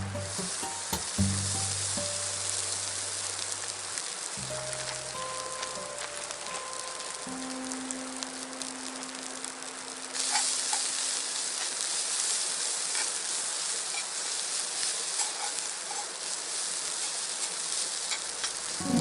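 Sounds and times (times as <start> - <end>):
food sizzling in a hot pan: 0.0 - 19.0.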